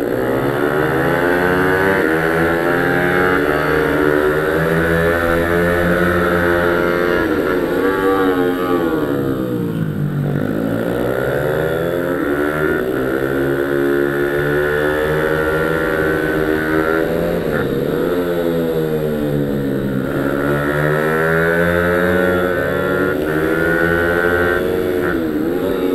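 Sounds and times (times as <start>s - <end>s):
motorbike engine revving hard: 0.0s - 25.9s.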